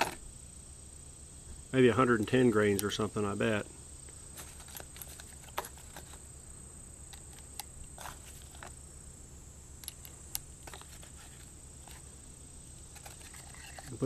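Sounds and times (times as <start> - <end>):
high insect buzz: 0.0 - 14.0.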